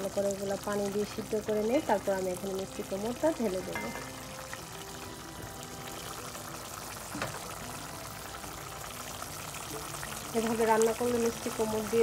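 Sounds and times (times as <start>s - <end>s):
curry bubbling in a pot: 0.0s - 12.0s.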